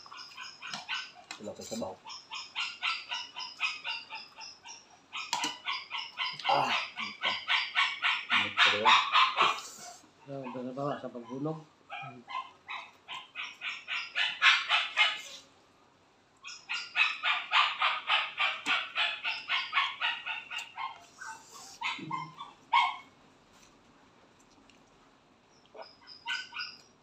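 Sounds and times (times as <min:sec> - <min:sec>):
animal rapid chirping: 0:00.0 - 0:10.6, 0:12.0 - 0:15.4, 0:16.4 - 0:22.9, 0:25.5 - 0:26.9.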